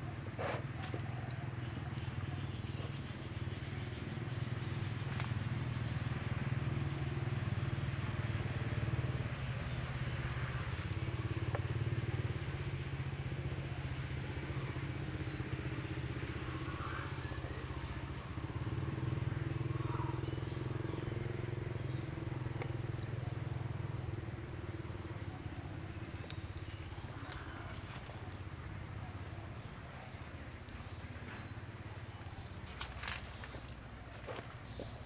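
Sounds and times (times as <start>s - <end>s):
engine idling hum: 0.0s - 35.0s.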